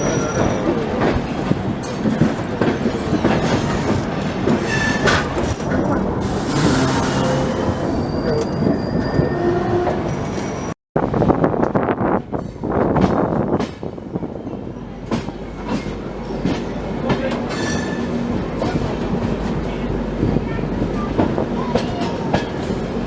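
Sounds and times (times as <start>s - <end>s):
train coach rattling on rails: 0.0s - 23.0s.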